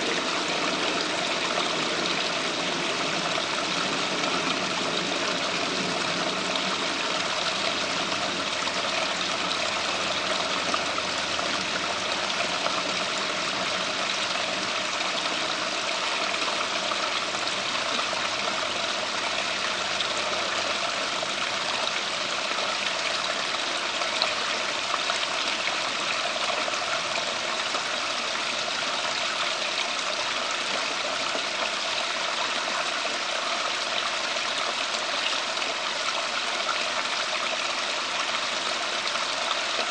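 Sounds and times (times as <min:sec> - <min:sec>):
water feature trickling: 0:00.0 - 0:39.9.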